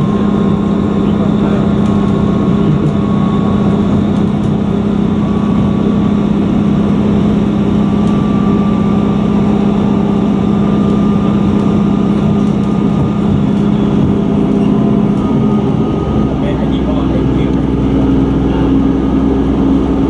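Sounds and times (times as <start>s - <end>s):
train engine humming: 0.0s - 20.0s.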